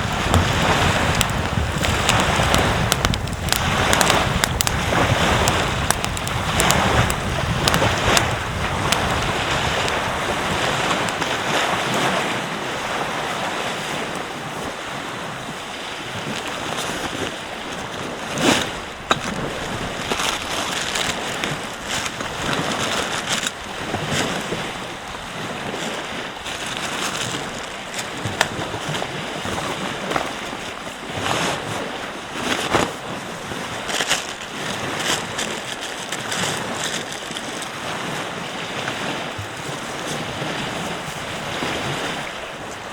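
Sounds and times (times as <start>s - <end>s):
ocean surf washing on beach: 0.0s - 42.9s
wind: 0.0s - 42.9s.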